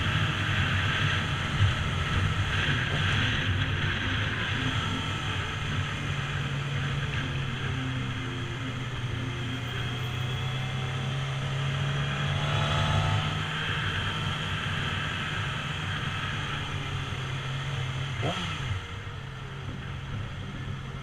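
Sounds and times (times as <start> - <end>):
motorcycle engine running: 0.0 - 21.0
wind and road rush on microphone: 0.0 - 21.0.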